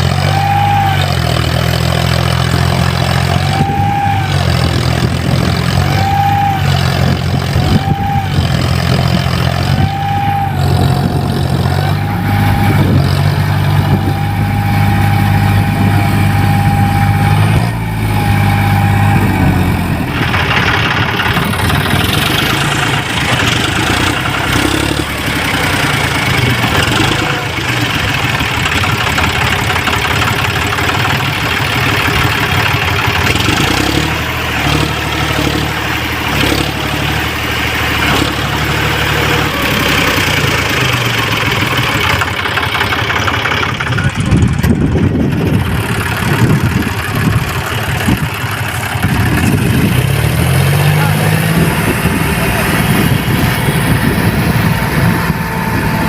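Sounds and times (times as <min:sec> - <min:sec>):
tractor diesel engine running: 0:00.0 - 0:56.0
loud rushing noise: 0:03.5 - 0:56.0.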